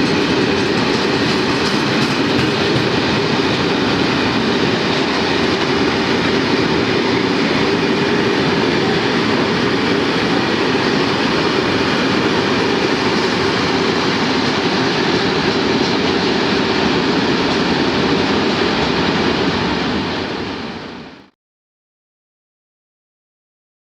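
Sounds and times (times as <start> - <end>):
freight train rumbling past: 0.0 - 21.3.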